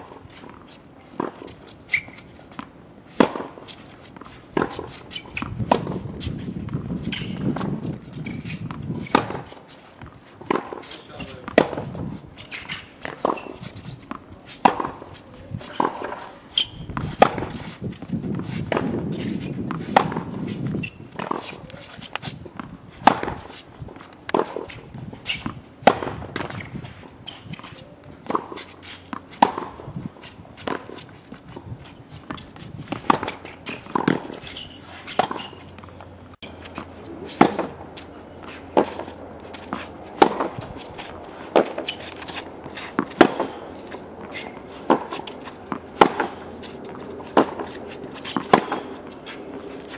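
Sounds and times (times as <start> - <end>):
rackets striking tennis balls: 0.0 - 49.9
tennis balls bouncing: 0.0 - 49.9.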